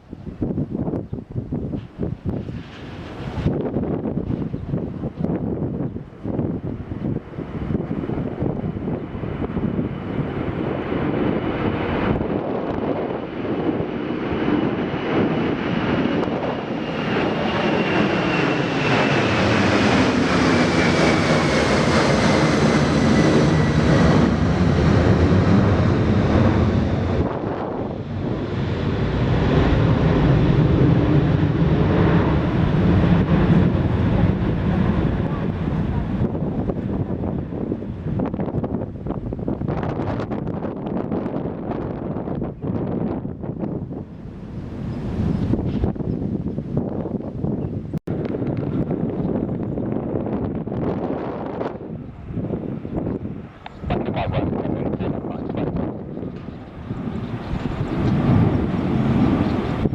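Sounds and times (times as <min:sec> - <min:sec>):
jet engines roaring: 0:00.0 - 0:59.9
turbine whine: 0:00.0 - 0:59.9
wind on microphone: 0:00.0 - 0:59.9.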